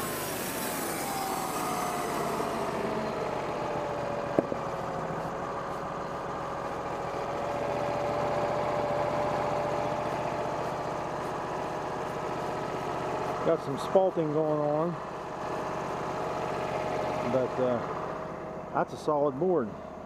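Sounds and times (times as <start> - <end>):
sawmill engine idling: 0.0 - 20.0.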